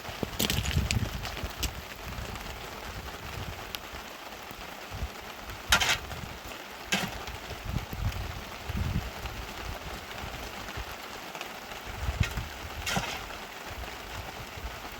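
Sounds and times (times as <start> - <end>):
rain falling steadily: 0.0 - 14.9.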